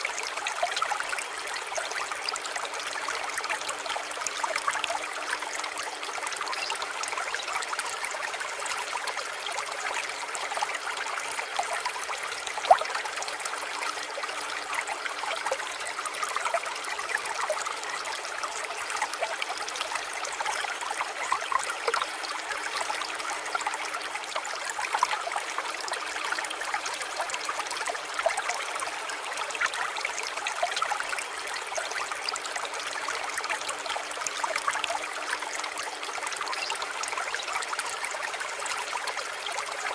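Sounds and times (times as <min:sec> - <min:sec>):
water trickling and bubbling: 0:00.0 - 0:39.9.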